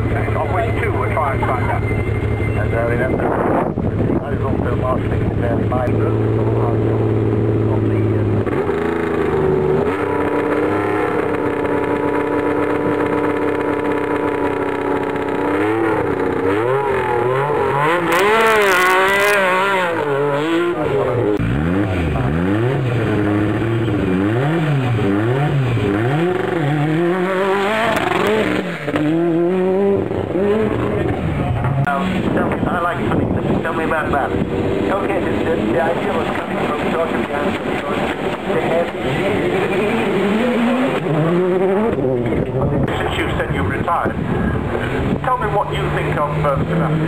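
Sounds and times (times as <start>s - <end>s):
rally car engine revving: 0.0s - 47.0s
rally car passing: 0.0s - 47.0s.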